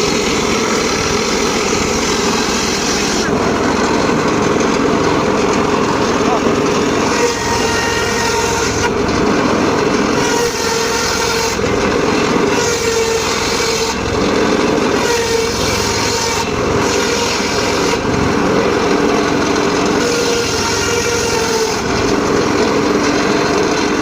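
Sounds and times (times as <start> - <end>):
circular saw cutting wood: 0.0 - 24.0.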